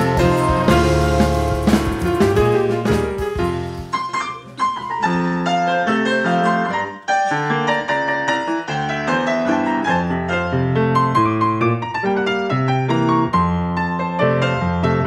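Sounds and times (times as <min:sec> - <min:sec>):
grand piano music: 0:00.0 - 0:15.0.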